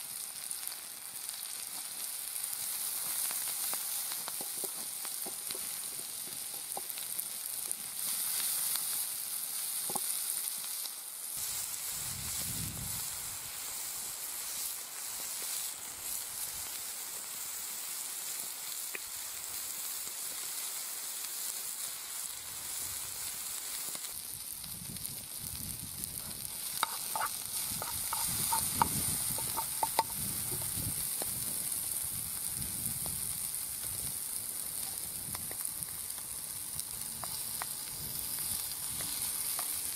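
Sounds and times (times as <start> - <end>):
vegetables sizzling in a frying pan: 0.0 - 39.9.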